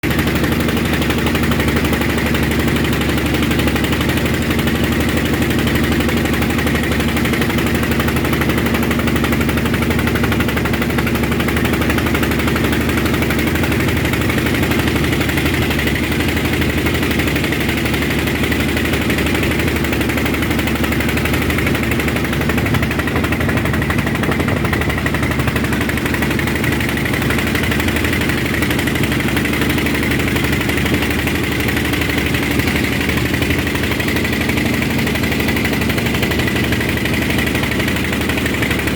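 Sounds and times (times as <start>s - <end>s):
ferry engine running: 0.0s - 38.9s.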